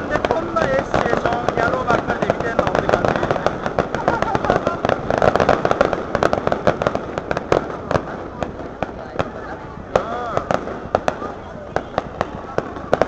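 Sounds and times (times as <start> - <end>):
fireworks popping and crackling: 0.0 - 13.0.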